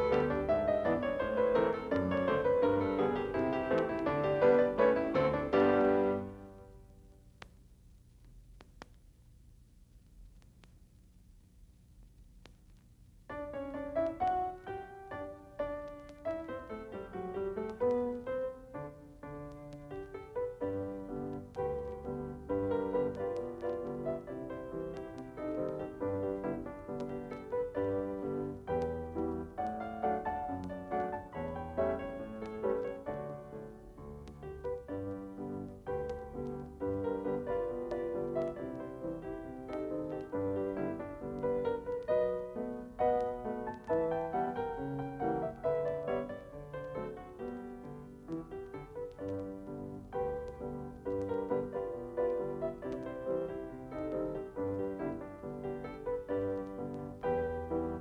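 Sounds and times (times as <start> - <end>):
solo piano music: 0.0 - 6.9, 13.3 - 58.0.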